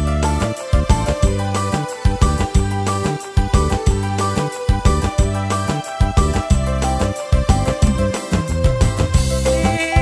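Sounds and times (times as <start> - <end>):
electronic keyboard dance music: 0.0 - 10.0.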